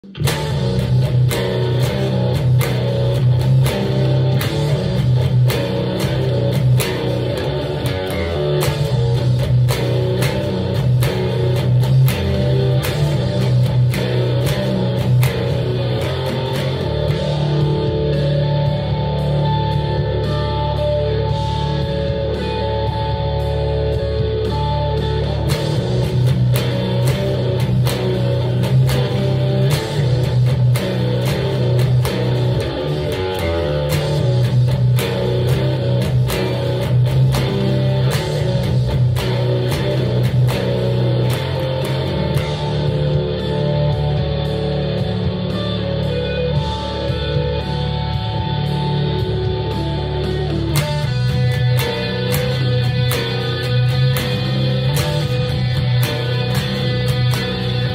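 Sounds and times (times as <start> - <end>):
fuzz bass guitar riffs: 0.0 - 57.9.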